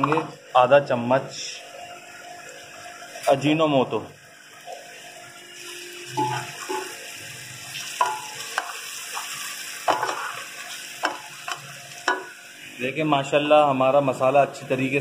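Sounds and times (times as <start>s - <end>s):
masala frying in oil: 0.0s - 15.0s.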